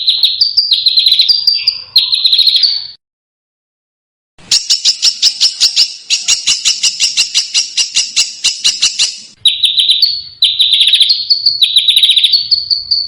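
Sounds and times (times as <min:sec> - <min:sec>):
songbird scratchy calls: 0:00.0 - 0:02.9, 0:04.4 - 0:13.0
buzzy bird trill: 0:00.0 - 0:03.0, 0:04.4 - 0:13.0.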